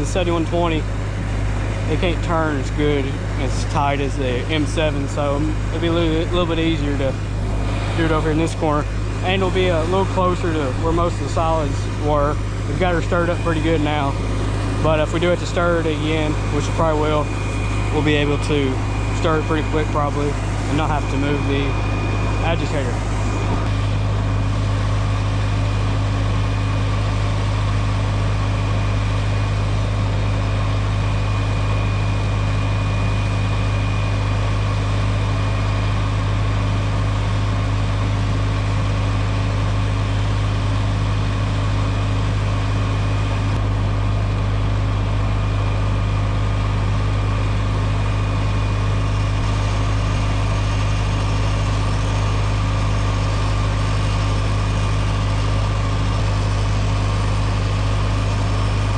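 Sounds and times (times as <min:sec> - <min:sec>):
tractor engine humming: 0:00.0 - 0:58.9.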